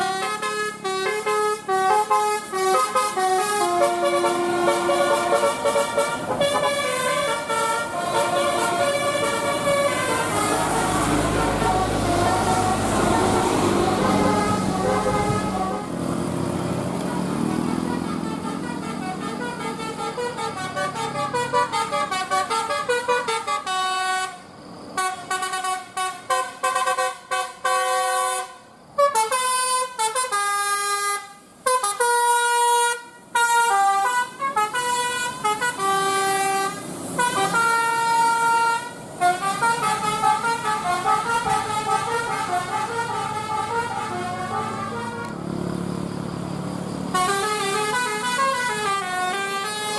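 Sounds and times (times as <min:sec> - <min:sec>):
multi-tone bus horn tune: 0:00.0 - 0:45.6, 0:46.5 - 0:49.9.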